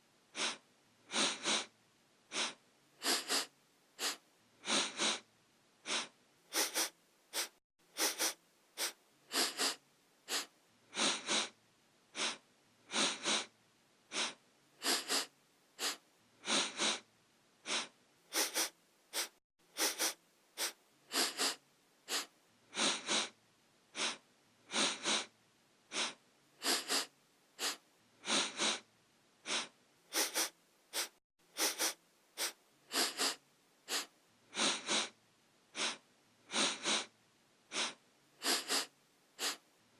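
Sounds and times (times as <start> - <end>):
person sniffing: 0.3 - 1.7, 2.3 - 13.5, 14.1 - 25.3, 25.9 - 37.1, 37.7 - 39.7.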